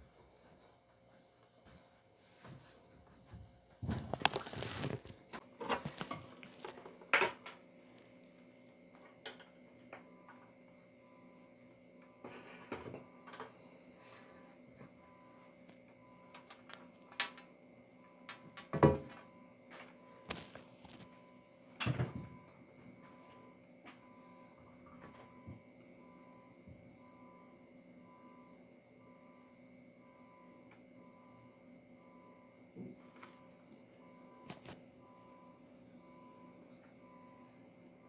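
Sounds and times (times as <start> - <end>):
faint electrical hum: 0.0 - 38.0.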